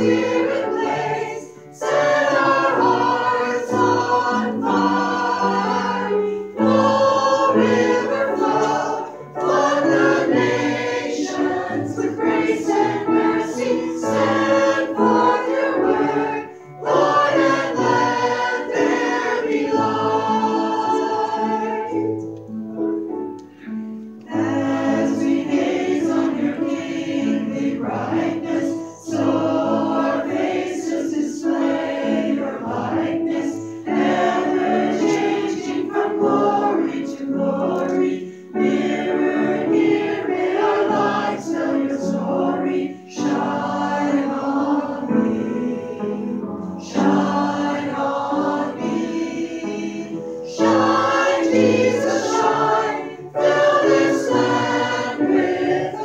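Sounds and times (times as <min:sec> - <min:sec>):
group singing in harmony: 0:00.0 - 0:22.5, 0:23.2 - 0:56.0
grand piano: 0:00.0 - 0:56.0.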